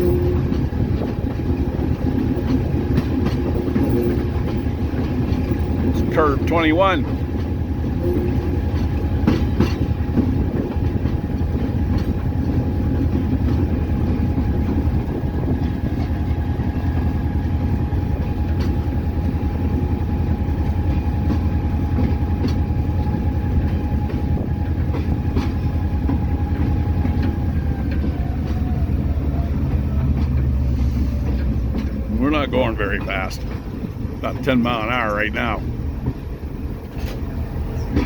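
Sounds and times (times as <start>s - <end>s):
locomotive engine rumble: 0.0s - 38.0s.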